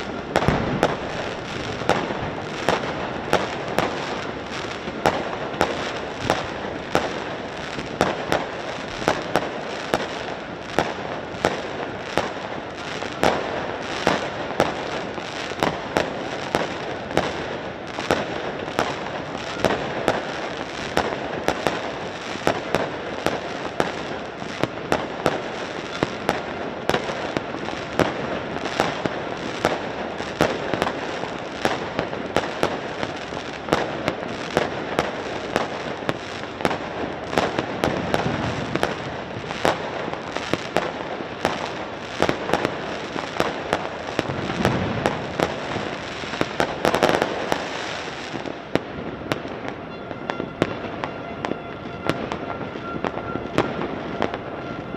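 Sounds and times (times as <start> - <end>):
fireworks and firecrackers banging: 0.0 - 54.9.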